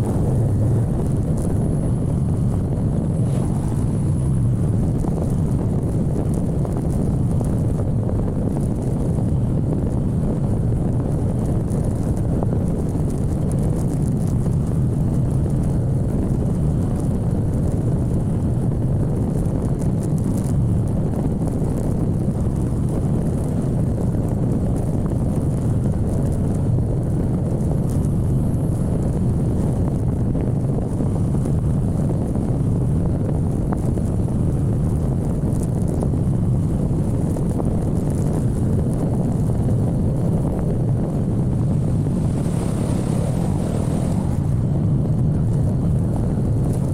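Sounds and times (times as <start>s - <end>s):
motorcycle running at speed: 0.0s - 46.9s
wind buffeting microphone: 0.0s - 46.9s.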